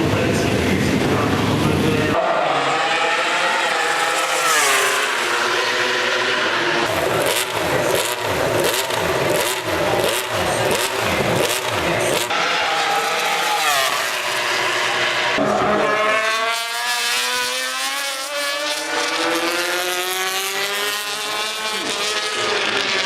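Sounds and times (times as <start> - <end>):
motorcycles passing by: 0.0 - 23.0
racing motorcycles revving: 0.0 - 23.0.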